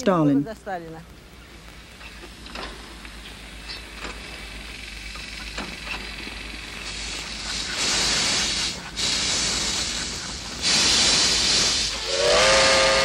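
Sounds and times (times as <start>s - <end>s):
steam locomotive venting steam: 1.7s - 13.0s.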